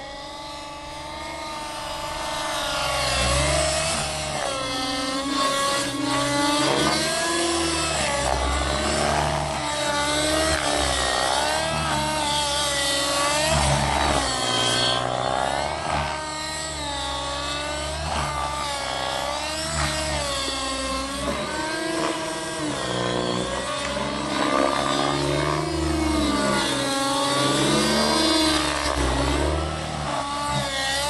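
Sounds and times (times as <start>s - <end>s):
model helicopter engine running: 0.0s - 31.0s.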